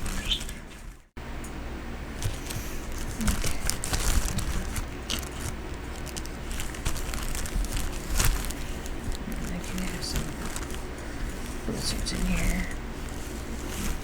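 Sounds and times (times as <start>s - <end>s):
rustling and crinkling: 0.0s - 1.2s, 2.1s - 14.0s.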